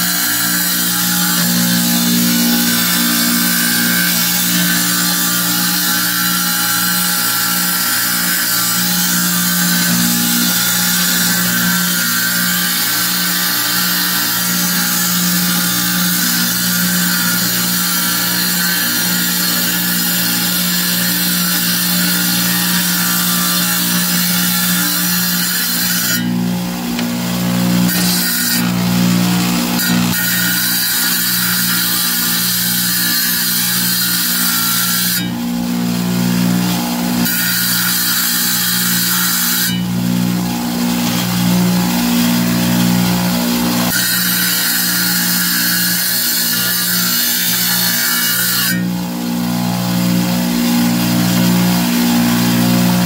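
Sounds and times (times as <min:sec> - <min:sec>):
wet tile saw grinding stone: 0:00.0 - 0:53.0.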